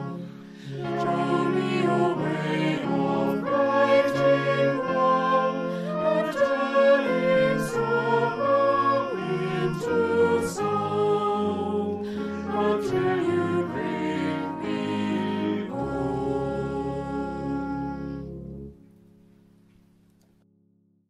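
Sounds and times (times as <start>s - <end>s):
choir singing a hymn: 0.0s - 18.7s
brass accompaniment: 0.0s - 19.0s.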